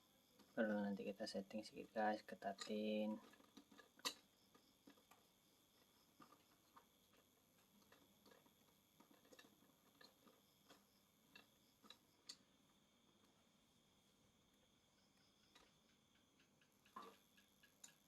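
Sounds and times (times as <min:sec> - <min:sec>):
plastic parts clicking and tapping: 0:00.4 - 0:12.5, 0:15.4 - 0:18.0.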